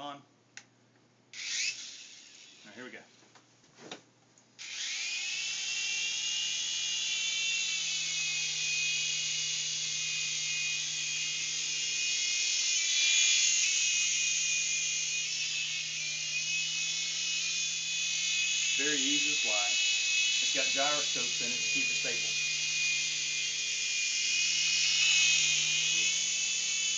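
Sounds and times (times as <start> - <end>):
toy helicopter motor whine: 1.3 - 2.9, 4.6 - 26.9.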